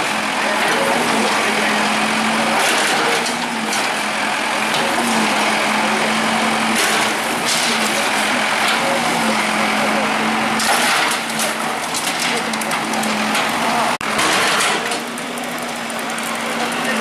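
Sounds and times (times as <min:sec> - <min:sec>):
bulldozer engine droning: 0:00.0 - 0:17.0.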